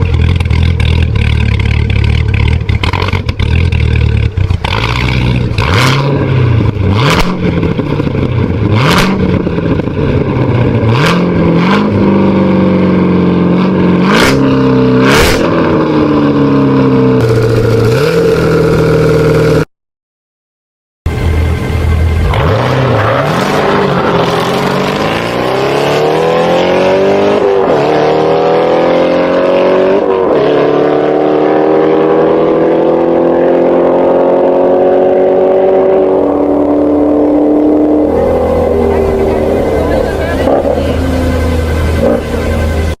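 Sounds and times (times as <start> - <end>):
car engine idling and revving: 0.0 - 19.7, 21.1 - 43.0.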